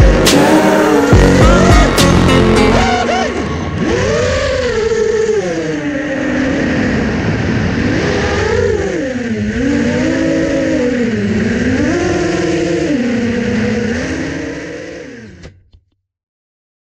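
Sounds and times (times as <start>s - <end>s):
drone motors whining: 0.0s - 15.6s.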